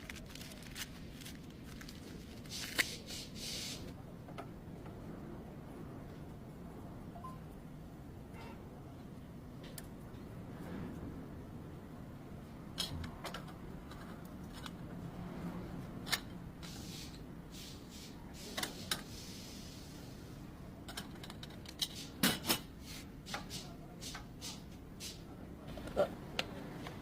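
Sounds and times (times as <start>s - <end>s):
low steady background hum: 0.0s - 27.0s.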